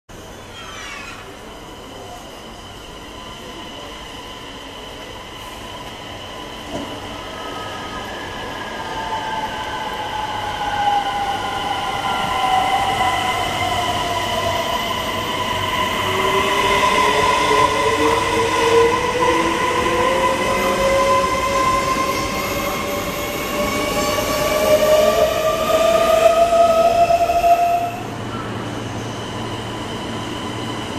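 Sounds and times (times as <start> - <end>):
train cars running noise: 0.1 - 30.9.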